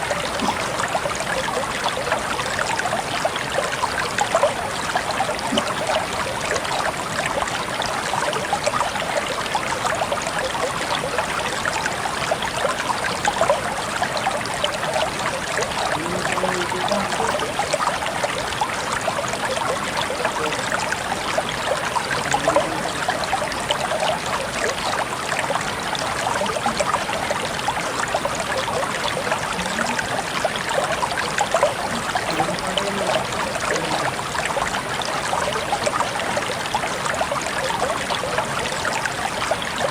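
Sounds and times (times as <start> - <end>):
low water gurgle: 0.0 - 39.9
water drips and splashes: 0.0 - 39.9
water trickling: 0.0 - 39.9.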